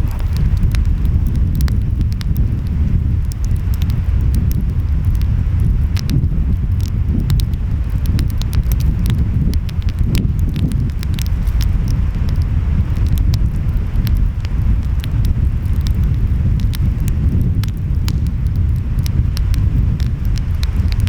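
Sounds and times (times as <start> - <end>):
wind: 0.0 - 21.0
wood fire crackling and popping: 0.0 - 21.0.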